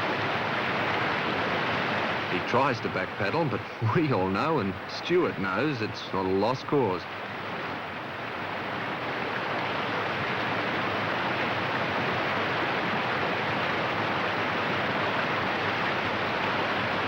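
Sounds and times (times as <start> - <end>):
river rapid rushing: 0.0 - 17.0.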